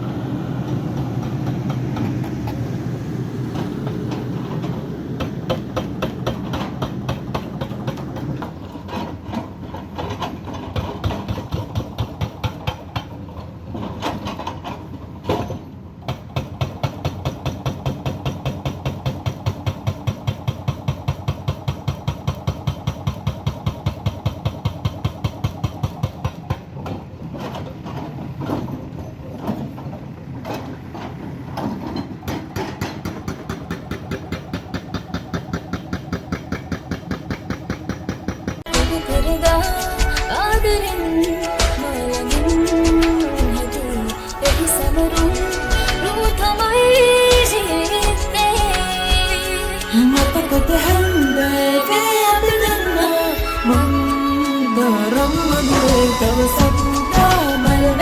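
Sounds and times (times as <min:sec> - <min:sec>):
diesel engine pulsing: 0:00.0 - 0:15.4, 0:18.7 - 0:58.0.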